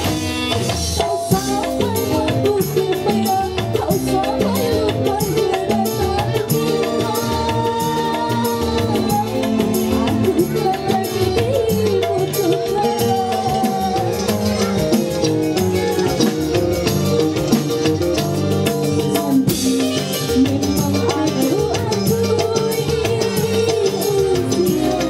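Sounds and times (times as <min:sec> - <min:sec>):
drums and percussion: 0:00.0 - 0:25.0
keyboard melody: 0:00.0 - 0:25.0
woman singing into microphone: 0:01.0 - 0:16.0, 0:18.2 - 0:25.0.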